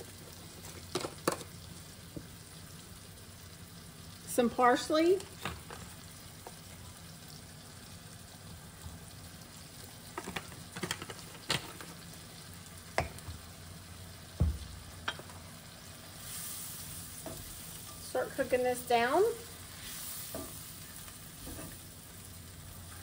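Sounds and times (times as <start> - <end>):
vegetables sizzling in pan: 0.0 - 23.0.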